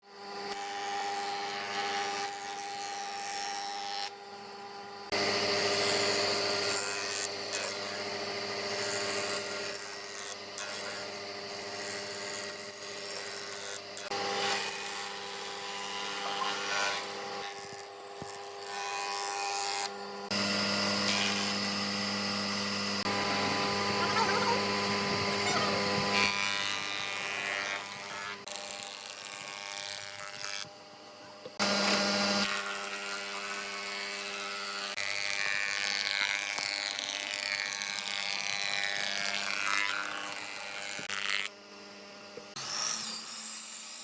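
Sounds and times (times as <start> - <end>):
woodworking power tools: 0.0 - 44.0.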